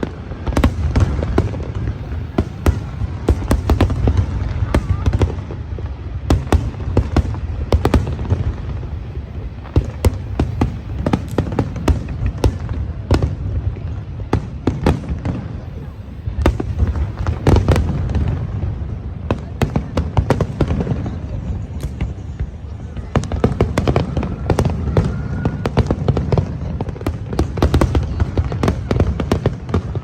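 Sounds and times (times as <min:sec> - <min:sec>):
deep rumble of distant bursts: 0:00.0 - 0:30.0
fireworks sharp bangs: 0:00.0 - 0:30.0.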